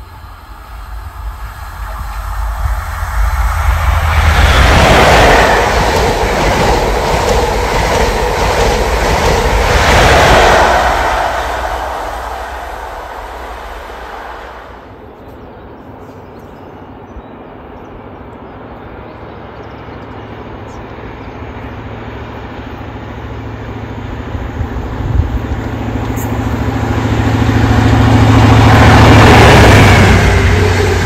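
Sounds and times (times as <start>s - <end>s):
diesel train engine hum: 0.0s - 31.0s
wheels rushing on rail: 0.0s - 31.0s.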